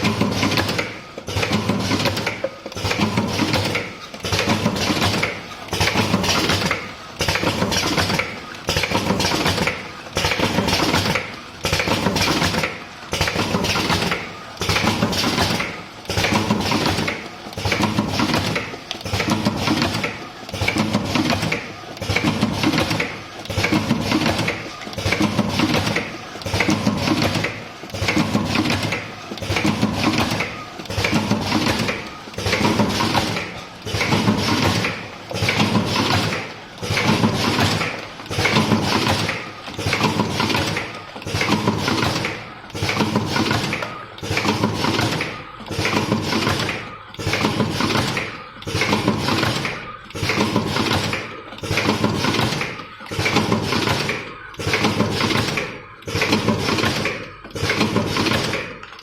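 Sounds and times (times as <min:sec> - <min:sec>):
machine clattering: 0:00.0 - 0:59.0.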